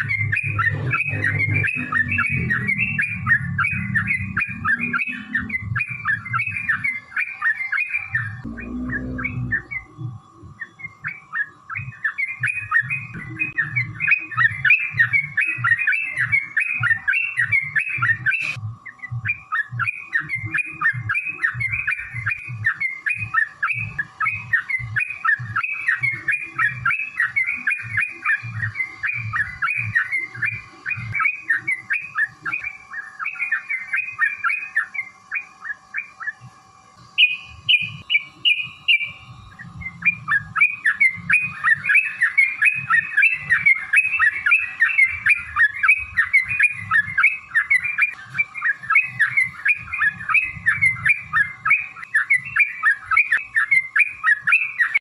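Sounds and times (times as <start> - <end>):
bird singing chattering notes: 0.0 - 55.0
faint steady hum: 0.0 - 55.0.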